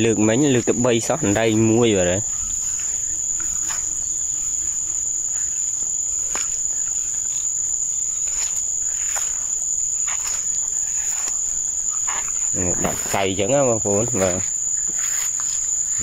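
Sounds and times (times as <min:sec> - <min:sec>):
shrill insect chorus: 0:00.0 - 0:16.0
soft rustles: 0:02.2 - 0:16.0.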